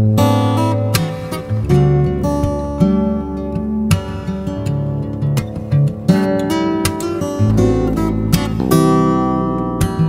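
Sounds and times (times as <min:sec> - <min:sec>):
acoustic guitar music: 0:00.0 - 0:10.0.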